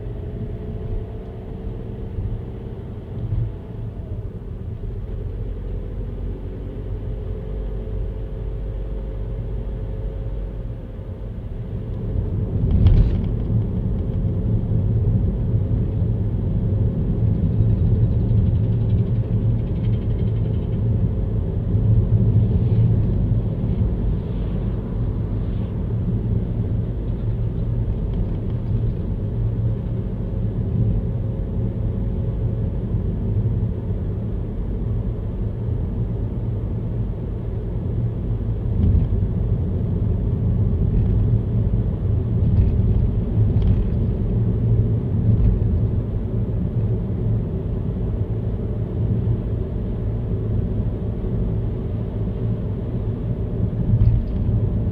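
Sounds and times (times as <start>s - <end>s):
car driving rumble: 0.0s - 54.9s.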